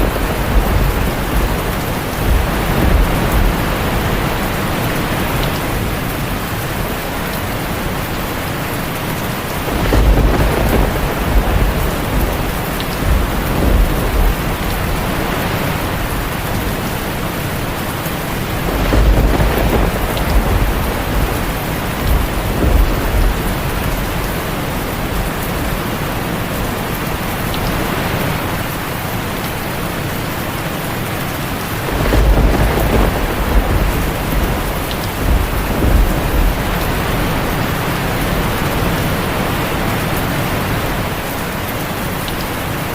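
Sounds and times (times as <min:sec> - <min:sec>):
thunder rumbling: 0:00.0 - 0:29.0, 0:31.5 - 0:41.6
heavy rain on a tin roof: 0:00.0 - 0:42.9.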